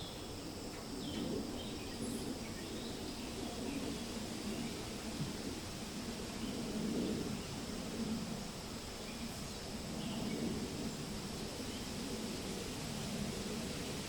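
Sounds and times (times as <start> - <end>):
wind rustling leaves: 0.0 - 14.0.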